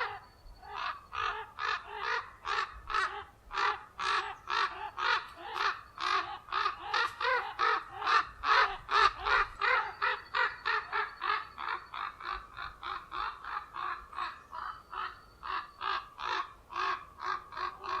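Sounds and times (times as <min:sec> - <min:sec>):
ravens giving harsh alarm calls: 0:00.0 - 0:18.0.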